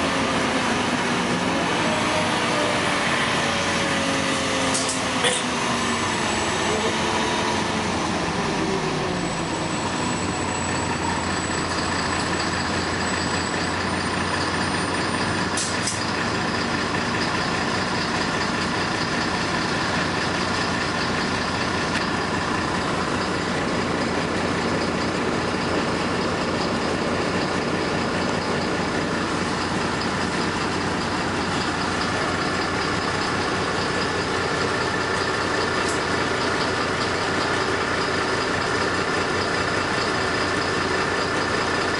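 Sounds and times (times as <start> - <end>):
bus engine hum: 0.0 - 41.9
road rattle noise: 0.0 - 41.9.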